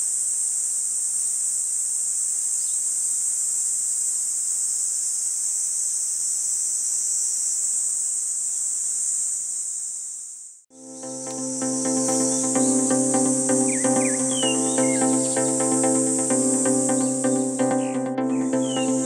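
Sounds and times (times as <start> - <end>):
high-pitched insect chorus: 0.1 - 17.9.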